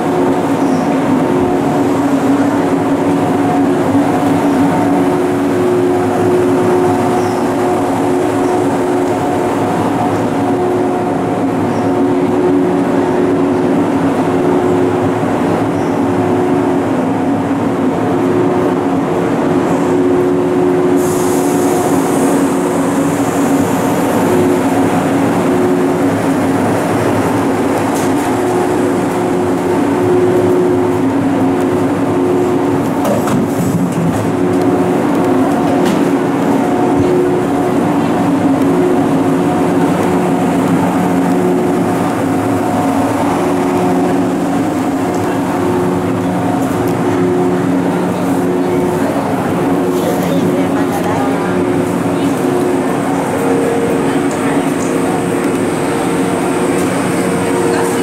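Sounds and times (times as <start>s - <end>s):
electric train two-pitch hum: 0.0s - 58.0s.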